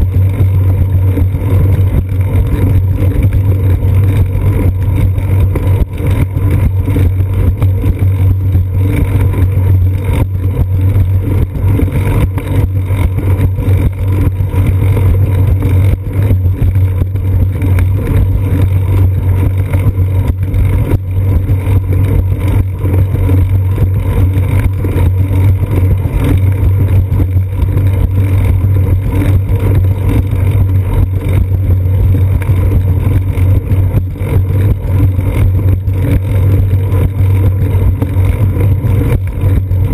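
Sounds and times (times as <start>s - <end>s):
bicycle knocks and rattles: 0.0s - 39.9s
wind and road rumble: 0.0s - 39.9s.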